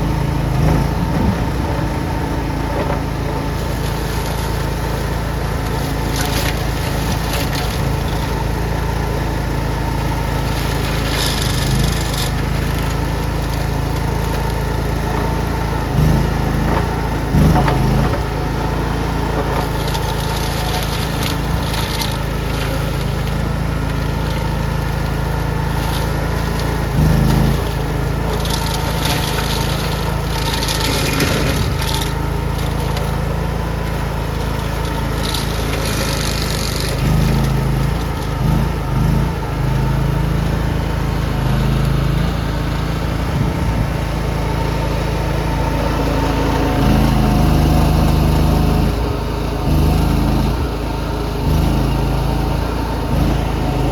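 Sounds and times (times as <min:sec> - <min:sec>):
scraping and crunching: 0:00.0 - 0:48.9
skid steer engine running: 0:00.0 - 0:53.9.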